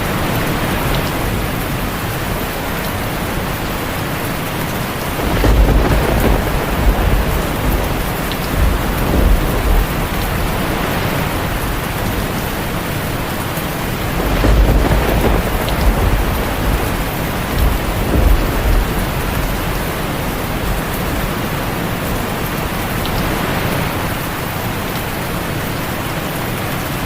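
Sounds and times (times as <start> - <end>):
thunder rolling: 0.0 - 24.1
heavy rain on a tin roof: 0.0 - 27.0.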